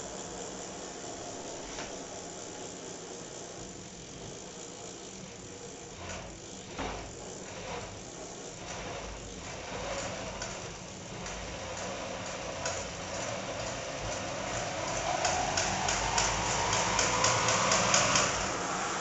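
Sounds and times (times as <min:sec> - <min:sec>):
bike chain clicking: 0:00.0 - 0:19.0
steady hum: 0:00.0 - 0:19.0.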